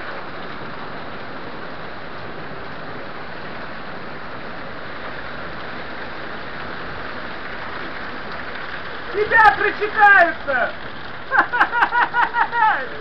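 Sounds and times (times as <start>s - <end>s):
heavy rain falling: 0.0s - 13.0s
wind: 0.0s - 13.0s.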